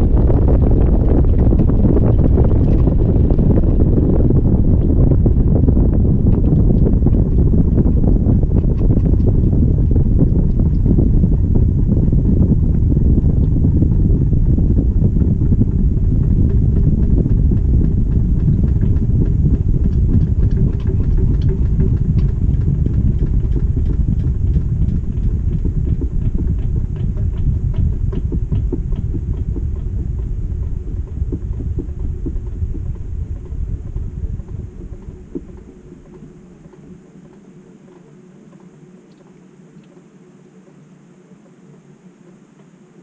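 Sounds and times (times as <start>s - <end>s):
washing machine spin rumble: 0.0s - 43.0s.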